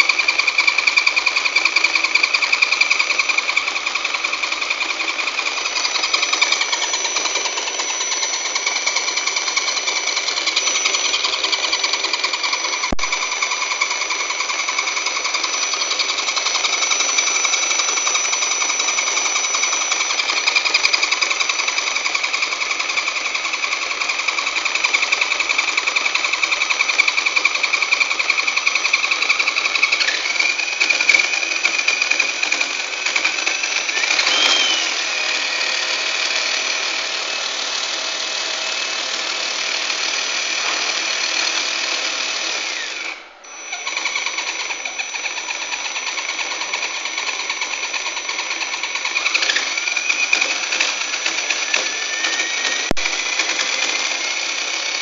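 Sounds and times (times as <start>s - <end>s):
electric motor gear whine: 0.0s - 55.0s.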